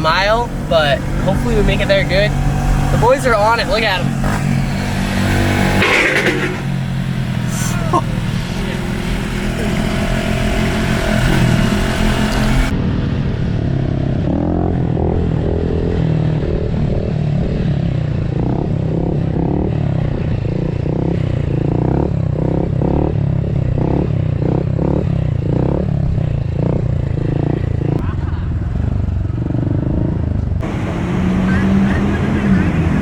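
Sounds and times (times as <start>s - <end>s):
pit bike engines revving: 0.0s - 13.3s, 14.2s - 33.0s.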